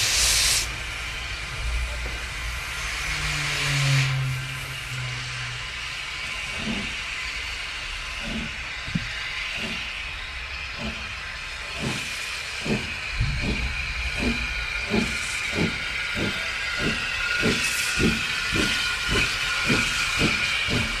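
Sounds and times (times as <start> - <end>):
steady hiss of steam: 0.0 - 21.0
steam locomotive exhaust chuffs: 0.0 - 21.0.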